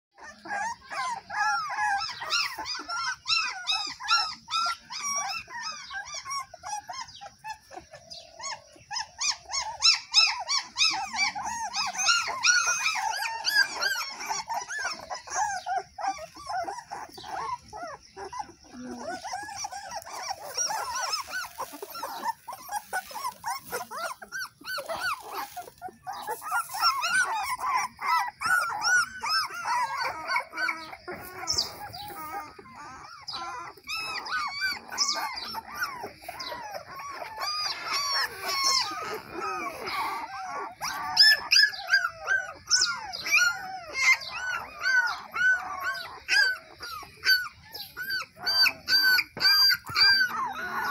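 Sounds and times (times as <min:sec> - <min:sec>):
puppies whimpering and whining: 0:00.2 - 0:50.9.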